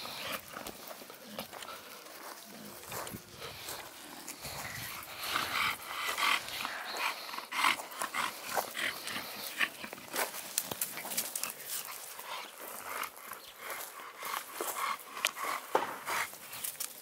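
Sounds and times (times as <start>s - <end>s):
dog panting: 0.0s - 16.8s
footsteps on dry ground: 0.0s - 17.0s.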